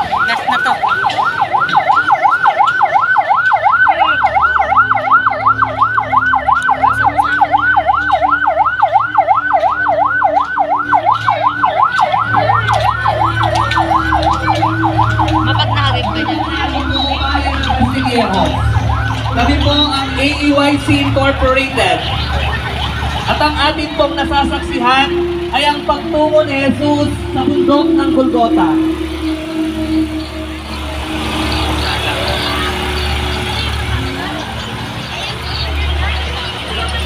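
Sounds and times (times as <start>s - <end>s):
low vehicle engine rumble: 0.0s - 37.0s
siren yelping: 0.0s - 37.0s.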